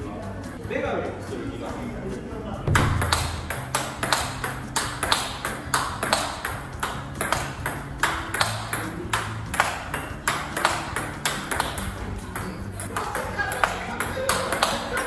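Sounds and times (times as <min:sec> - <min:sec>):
table tennis ball clicks: 0:02.7 - 0:15.0.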